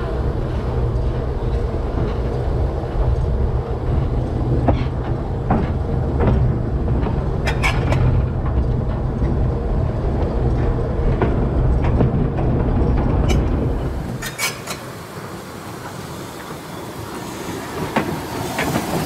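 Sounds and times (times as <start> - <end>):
train rumbling on rails: 0.0 - 19.0
wheels clicking on track: 0.0 - 19.0.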